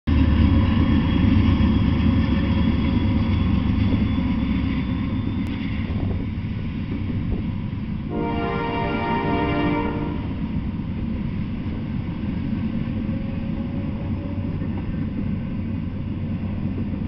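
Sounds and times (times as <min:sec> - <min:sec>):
freight train wheels rumbling: 0:00.1 - 0:17.0.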